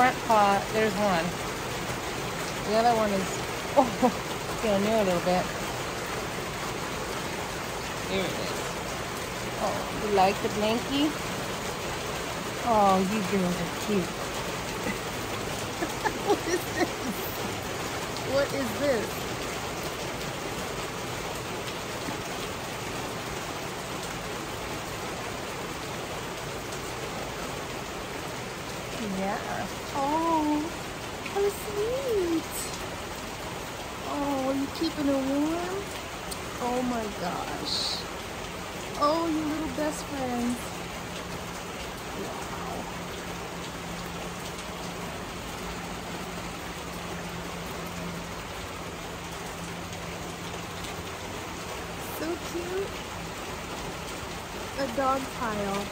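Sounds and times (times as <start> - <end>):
heavy rain on concrete: 0.0 - 55.9.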